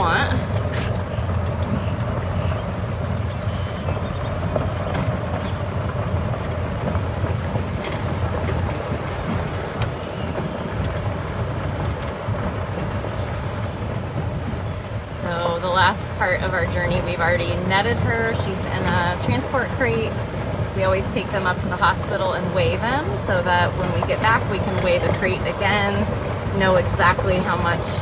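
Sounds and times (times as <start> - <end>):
vehicle driving on dirt road: 0.0 - 28.0
wind on microphone: 0.0 - 28.0.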